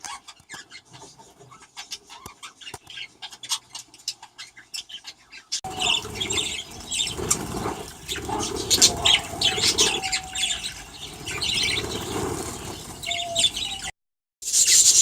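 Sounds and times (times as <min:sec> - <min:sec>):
flock of birds chattering: 0:00.0 - 0:13.9
budgerigars chirping: 0:00.1 - 0:13.9.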